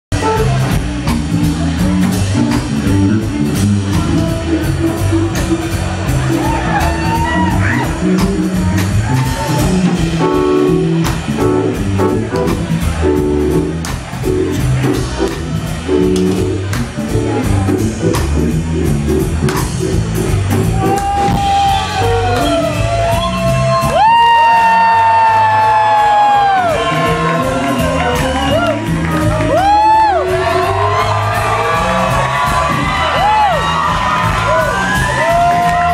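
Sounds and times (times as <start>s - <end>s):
live rock band playing: 0.1s - 35.9s.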